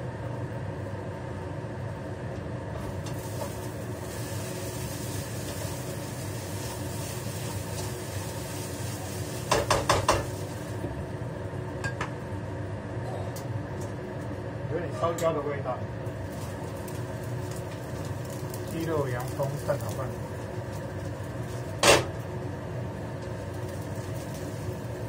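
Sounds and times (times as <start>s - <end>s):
range hood fan hum: 0.0s - 25.0s
light sizzle: 0.6s - 25.0s.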